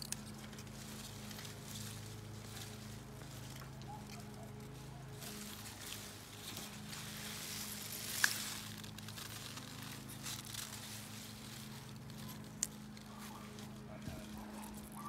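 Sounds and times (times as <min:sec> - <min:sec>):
vines and leaves rustling: 0:00.0 - 0:15.0.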